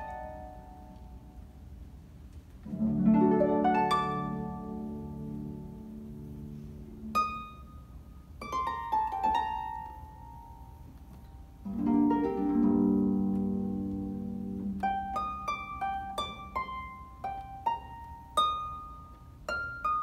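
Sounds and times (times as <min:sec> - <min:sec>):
harps playing: 0:00.0 - 0:01.3, 0:02.6 - 0:20.0.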